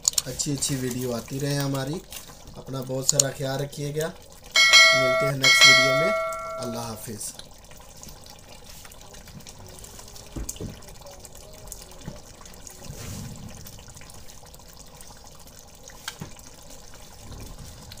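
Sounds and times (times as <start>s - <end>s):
gravy bubbling in a pot: 0.0s - 5.9s, 7.0s - 18.0s.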